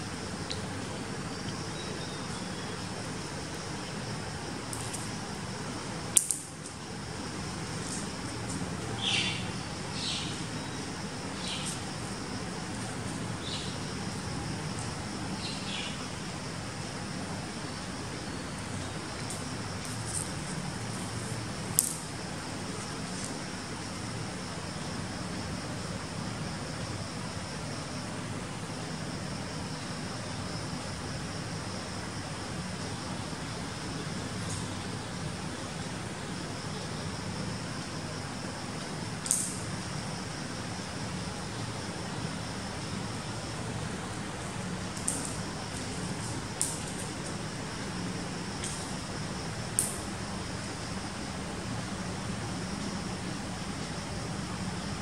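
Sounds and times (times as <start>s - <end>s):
background hiss: 0.0s - 55.0s.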